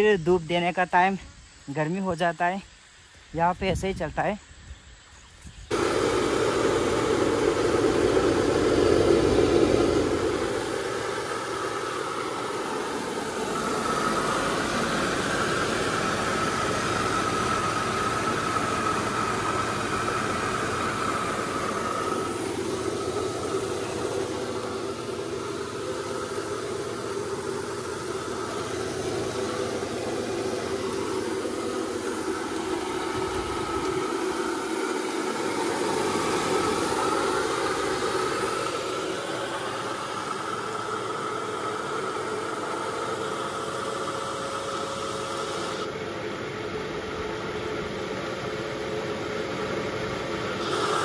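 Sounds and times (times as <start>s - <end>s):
rice mill mechanical drone: 0.0s - 51.0s.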